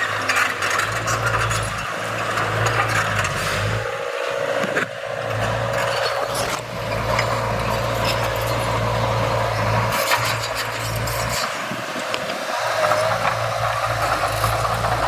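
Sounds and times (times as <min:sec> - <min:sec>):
clatter of soil and stones: 0:00.0 - 0:15.0
diesel engine running: 0:00.0 - 0:15.0.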